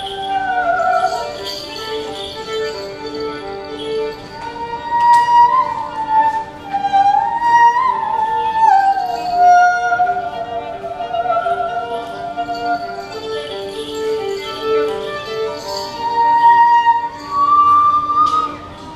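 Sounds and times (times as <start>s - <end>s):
violin figure: 0.0s - 18.9s.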